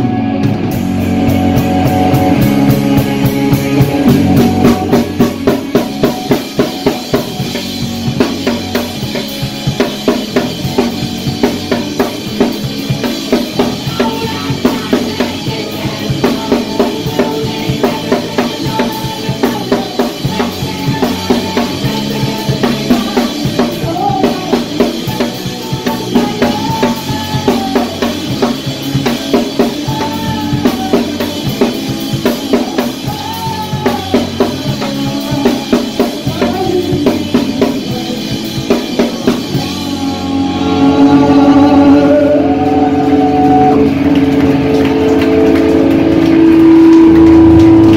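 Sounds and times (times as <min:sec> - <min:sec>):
drum kit beat: 0:00.0 - 0:47.9
live rock band playing: 0:00.0 - 0:47.9.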